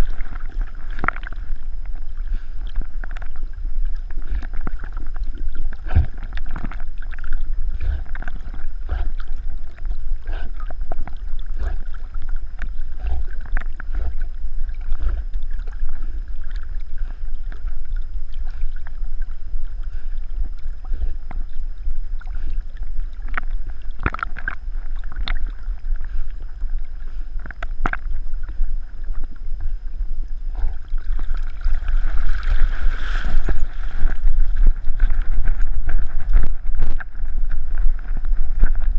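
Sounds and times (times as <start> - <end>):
water sloshing and splashing: 0.0 - 29.7, 30.5 - 38.9
steady low rumble: 0.0 - 38.9.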